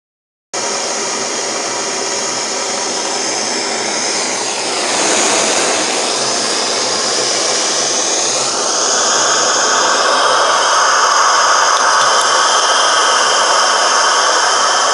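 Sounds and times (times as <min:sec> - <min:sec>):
gas burner flame hissing: 0:00.6 - 0:14.9.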